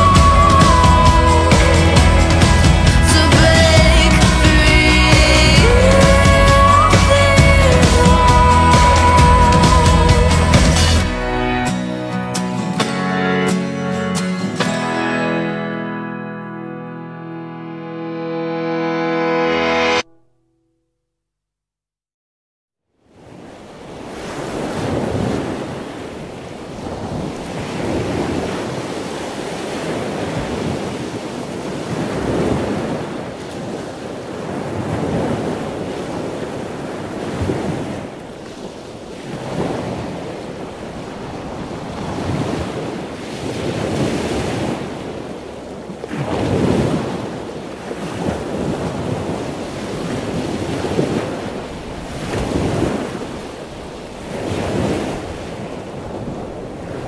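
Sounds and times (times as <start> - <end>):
ocean waves washing in: 0.0 - 20.1, 22.9 - 57.0.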